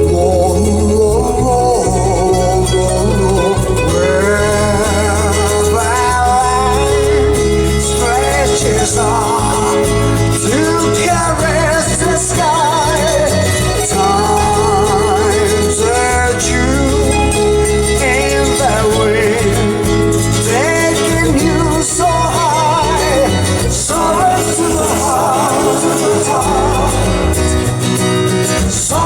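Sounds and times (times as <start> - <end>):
song with singer over instruments: 0.0 - 29.0.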